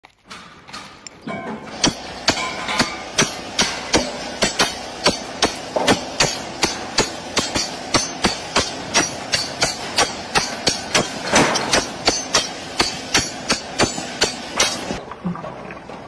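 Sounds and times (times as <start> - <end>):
sledgehammers striking steel stake: 1.3 - 15.0.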